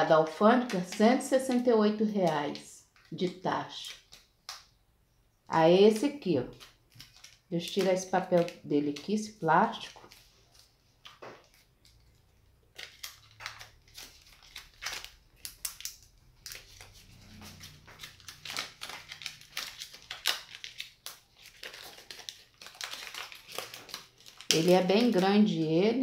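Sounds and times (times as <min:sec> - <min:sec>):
plastic film peeling and crinkling: 0:00.4 - 0:04.8, 0:05.9 - 0:25.6.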